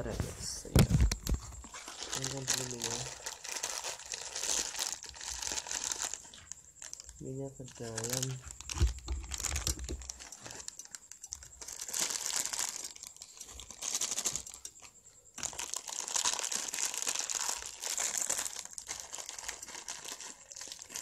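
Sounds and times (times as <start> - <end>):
crinkling rustling crackles: 0.0 - 21.0.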